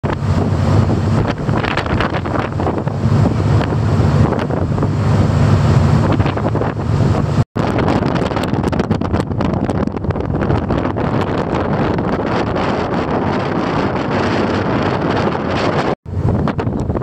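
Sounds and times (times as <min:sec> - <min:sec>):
low ship engine drone: 0:00.0 - 0:17.0
rush of boat wake: 0:00.0 - 0:17.0
wind buffeting microphone: 0:00.0 - 0:17.0.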